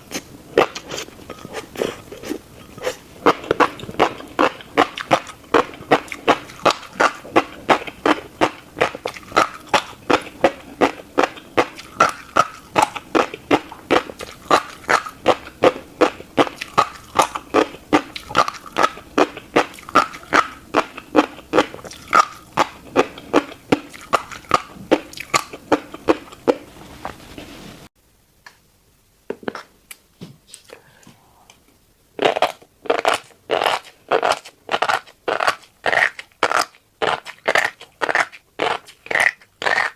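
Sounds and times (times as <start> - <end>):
chewing seeds close-up: 0.1 - 27.1, 32.2 - 39.9.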